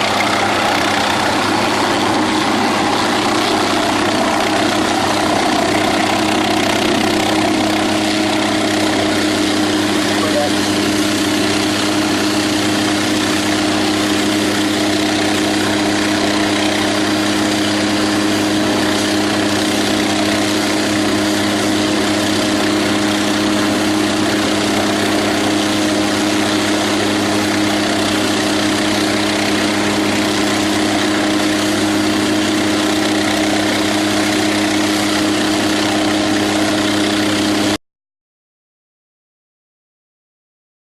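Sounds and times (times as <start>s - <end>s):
helicopter turbine and rotor: 0.0s - 37.8s.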